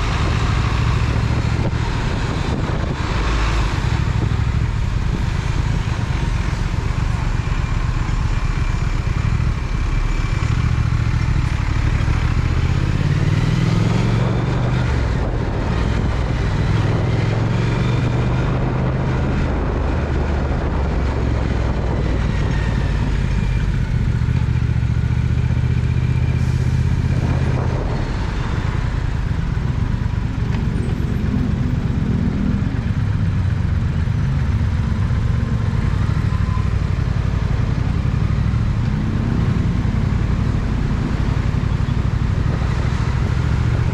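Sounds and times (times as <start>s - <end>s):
wind and road rush: 0.0s - 43.9s.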